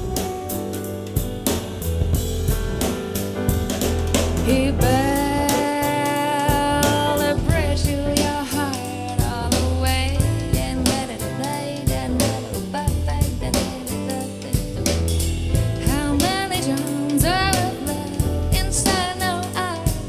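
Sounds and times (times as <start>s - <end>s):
soul jazz song with singing: 0.0s - 20.0s.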